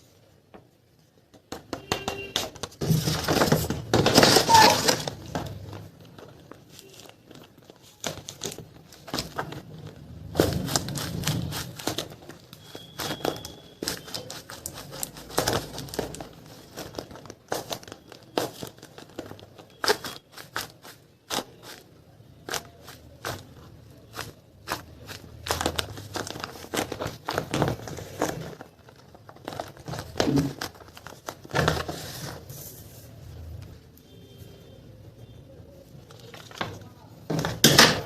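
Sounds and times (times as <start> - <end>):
plastic packaging crinkling: 1.8 - 33.8, 35.6 - 38.0.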